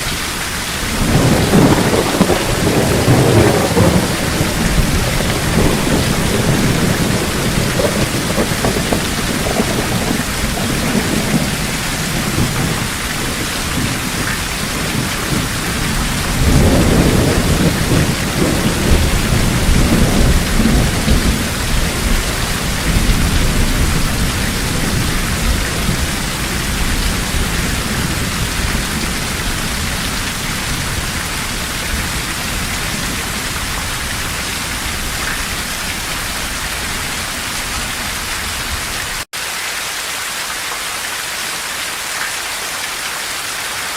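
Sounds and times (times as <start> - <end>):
heavy rain falling: 0.0 - 43.9
rolling thunder rumble: 0.8 - 39.2.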